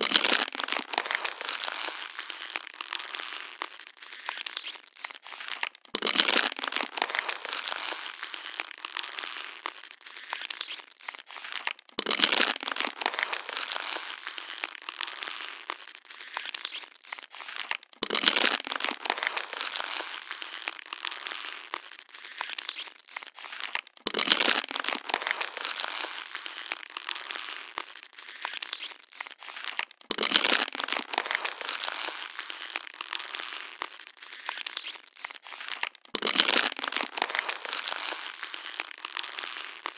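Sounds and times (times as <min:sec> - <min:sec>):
plastic bottle crushing and crinkling: 0:00.0 - 0:39.9.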